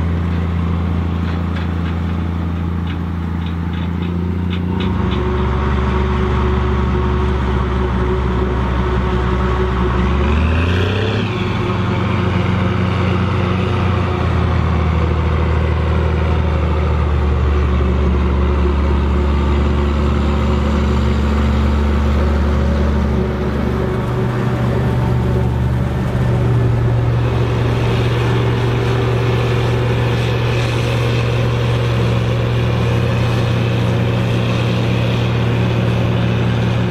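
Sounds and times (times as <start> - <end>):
heavy diesel engines under load: 0.0 - 36.9.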